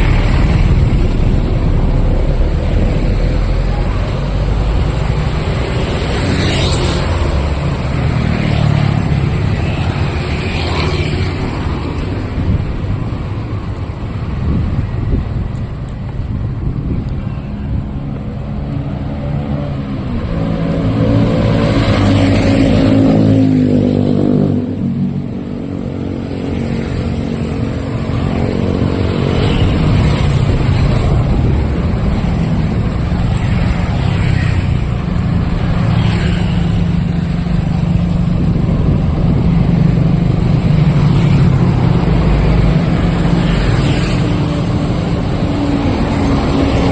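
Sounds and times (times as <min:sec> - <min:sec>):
street traffic: 0:00.0 - 0:46.9.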